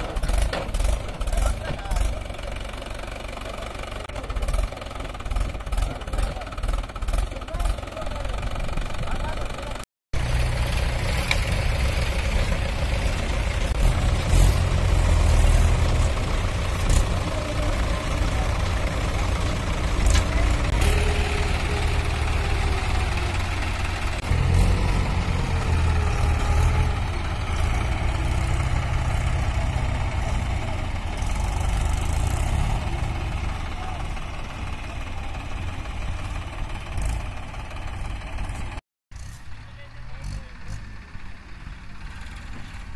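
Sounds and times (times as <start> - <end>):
tractor engines rumbling: 0.0 - 42.9.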